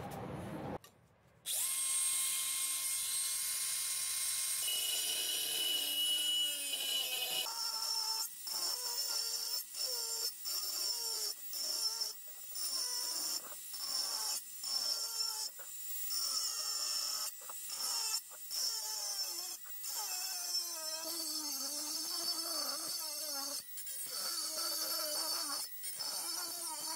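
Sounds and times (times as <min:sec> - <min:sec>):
angle grinder cutting metal: 0:01.5 - 0:26.9.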